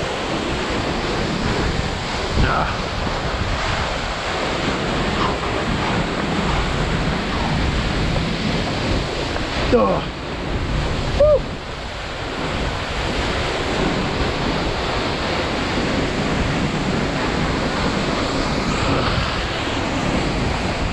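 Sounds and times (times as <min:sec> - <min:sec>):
waterfall crashing onto rocks: 0:00.0 - 0:20.9
wind buffeting microphone: 0:00.0 - 0:20.9.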